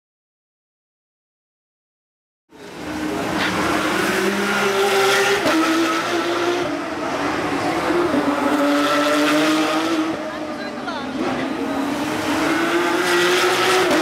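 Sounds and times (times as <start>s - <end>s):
race car engines passing: 2.5s - 14.0s.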